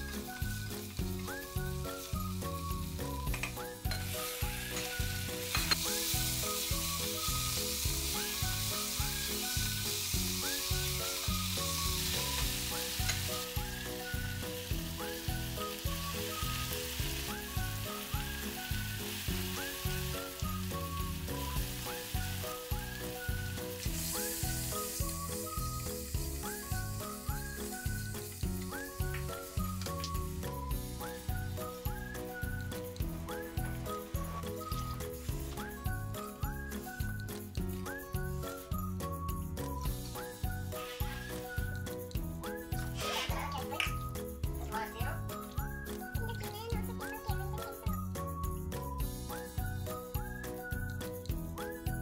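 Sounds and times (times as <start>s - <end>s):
upbeat music with whistled melody: 0.0s - 52.0s
vegetables sizzling in oil: 0.0s - 52.0s.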